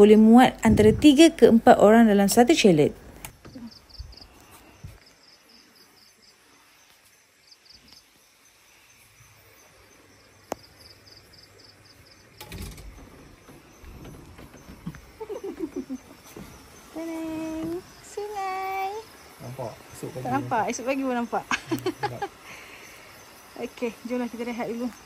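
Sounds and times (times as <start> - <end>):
night insects chirping: 0.0 - 25.0.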